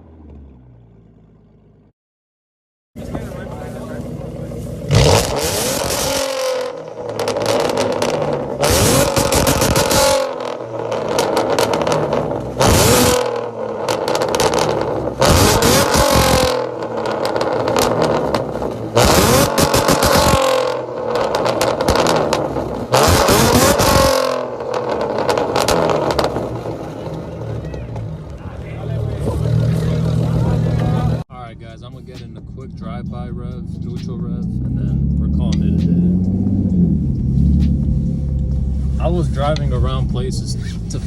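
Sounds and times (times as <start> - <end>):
car engine revving: 3.0 - 41.0.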